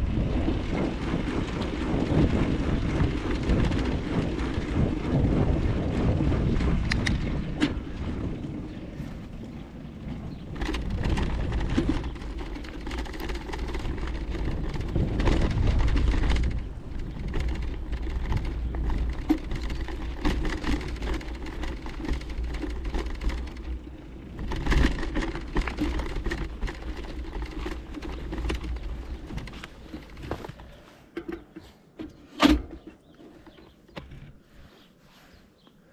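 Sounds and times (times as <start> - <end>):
wind buffeting microphone: 0.0 - 31.5
bicycle rattles and clicks: 0.0 - 34.4.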